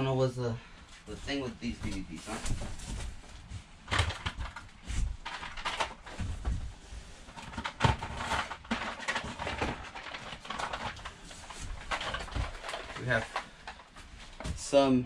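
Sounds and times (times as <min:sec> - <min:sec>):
packaging rustling and knocking: 0:01.8 - 0:14.7.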